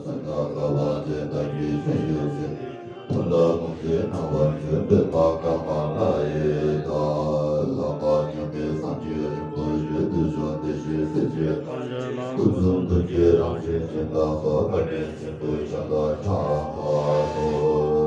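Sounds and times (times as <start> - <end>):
music: 0.0 - 18.0
voices chanting a mantra: 0.0 - 18.0.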